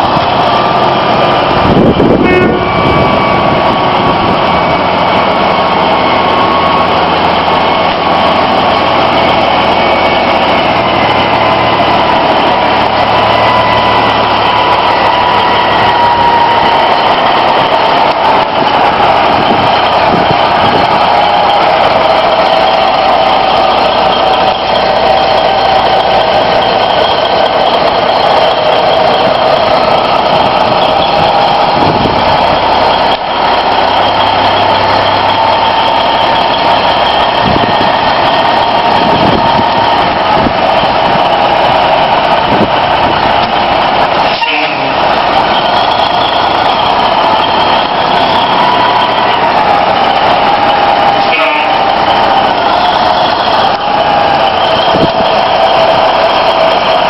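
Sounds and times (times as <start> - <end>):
steady whine: 0.0 - 57.0
truck engine running: 0.0 - 57.0.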